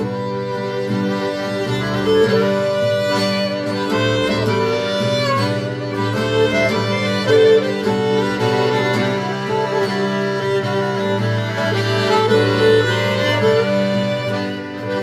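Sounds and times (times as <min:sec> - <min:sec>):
accordion chords: 0:00.0 - 0:15.0
saxophone: 0:00.0 - 0:15.0
strummed guitar: 0:00.0 - 0:15.0
violin melody: 0:00.0 - 0:15.0.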